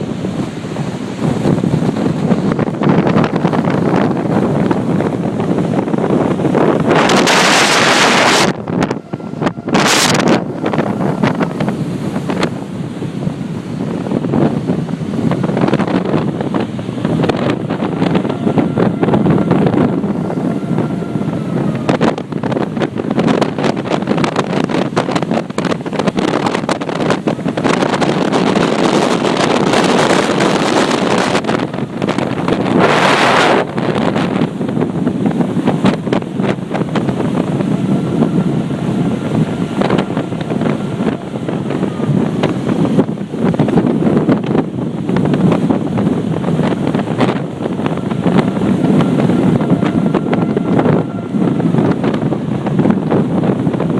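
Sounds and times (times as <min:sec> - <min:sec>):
heavy surf breaking: 0:00.0 - 0:53.9
wind buffeting microphone: 0:00.0 - 0:53.9.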